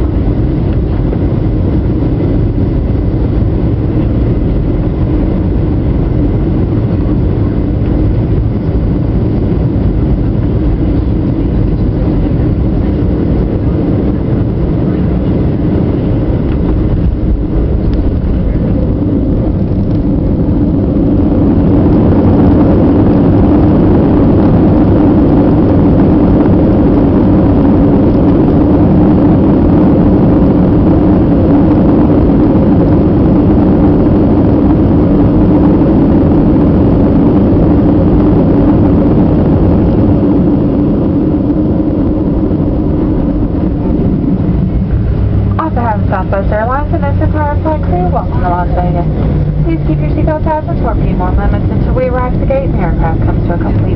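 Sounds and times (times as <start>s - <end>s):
aircraft engine and wheel rush: 0.0s - 53.9s.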